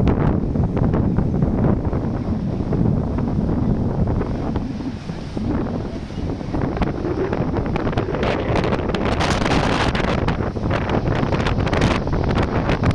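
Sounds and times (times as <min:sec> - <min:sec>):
storm wind buffeting microphone: 0:00.0 - 0:12.9.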